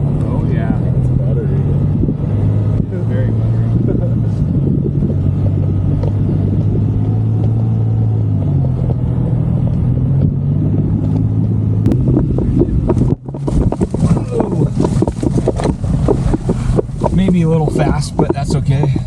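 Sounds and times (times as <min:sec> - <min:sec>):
pickup truck engine under load: 0:00.0 - 0:19.0.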